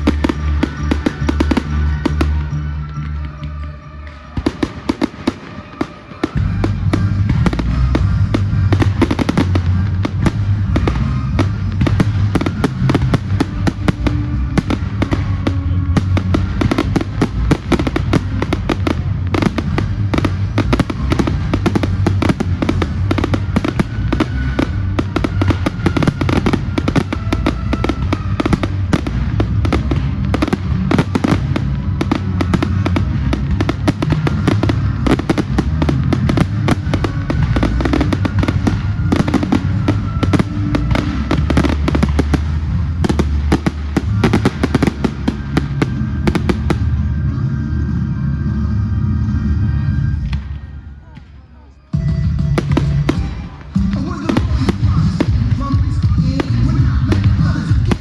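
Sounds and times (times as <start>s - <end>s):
fireworks bangs and crackles: 0.0s - 58.0s
deep rumble: 6.3s - 50.9s, 52.0s - 58.0s.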